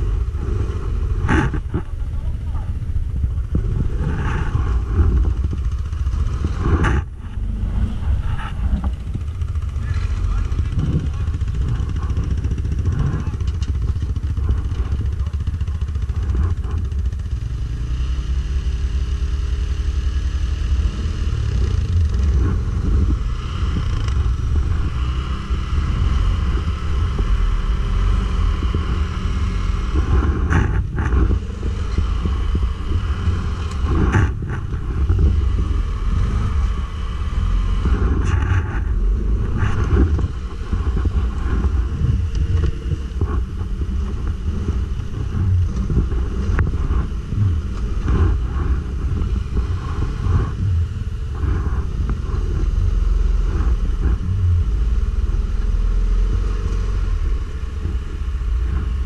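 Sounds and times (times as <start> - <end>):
atv engine rumbling: 0.0 - 59.0.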